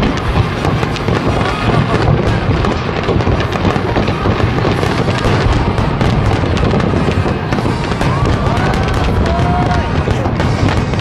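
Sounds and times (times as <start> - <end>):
fireworks booming and cracking: 0.0 - 11.0.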